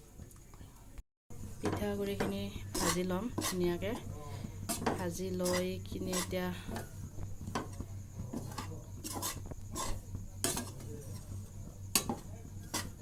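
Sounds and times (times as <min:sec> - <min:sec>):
steady low hum: 0:00.1 - 0:13.0
utensil scraping a wok: 0:01.5 - 0:13.0.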